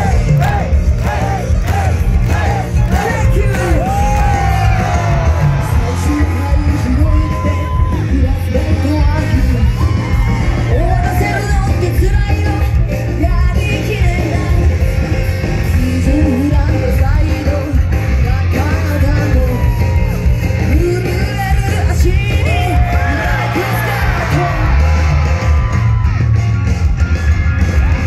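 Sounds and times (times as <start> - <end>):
amplified backing music: 0.0 - 28.0.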